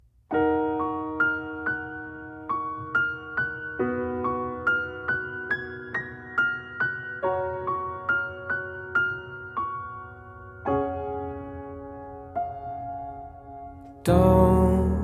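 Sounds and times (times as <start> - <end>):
slow sad piano music: 0.3 - 15.0.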